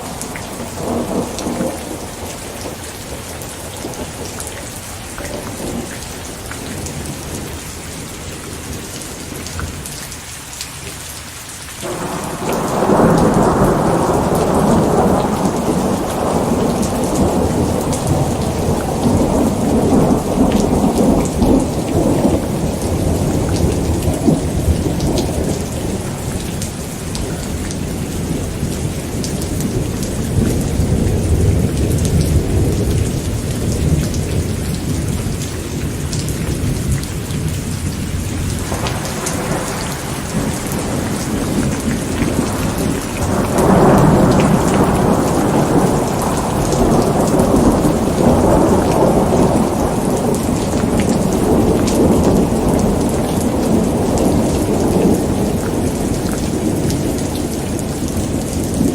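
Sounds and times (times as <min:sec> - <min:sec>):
rolling thunder: 0:00.0 - 0:09.4, 0:11.8 - 0:58.9
steady rain: 0:00.0 - 0:58.9.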